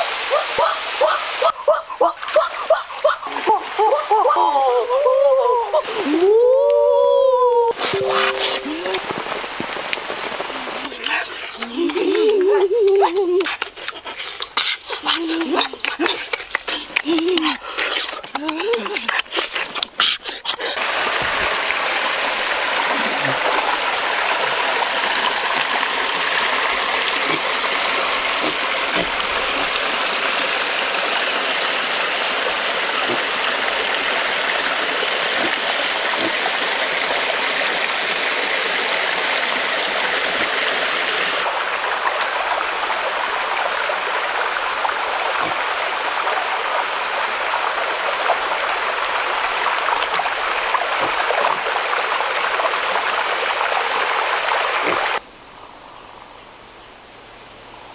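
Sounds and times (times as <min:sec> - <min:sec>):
small waterfall and stream: 0:00.0 - 0:57.9.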